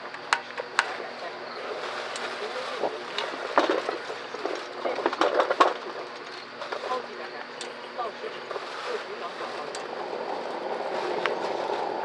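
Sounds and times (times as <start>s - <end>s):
low voices: 0.0s - 12.0s
wood fire crackling and hissing: 0.0s - 12.0s.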